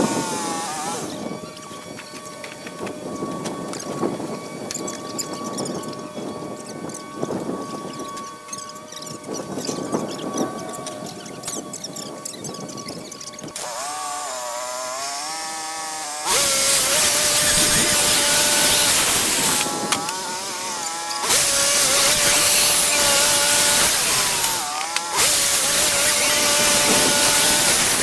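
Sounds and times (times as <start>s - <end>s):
band sawmill cutting log: 0.0s - 28.0s.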